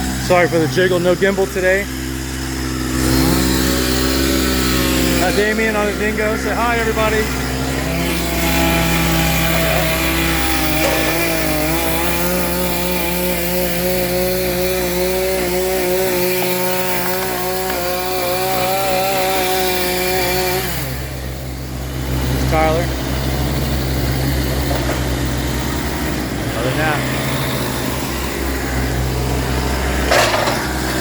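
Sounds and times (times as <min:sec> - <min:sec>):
chainsaw running at high revs: 0:00.0 - 0:31.0
loader engine droning: 0:00.0 - 0:31.0.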